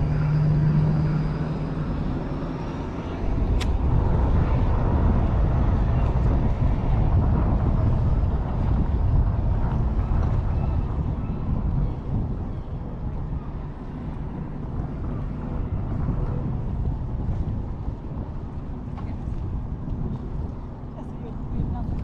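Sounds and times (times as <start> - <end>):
road traffic: 0.0 - 22.0
wind rumble on microphone: 0.0 - 22.0.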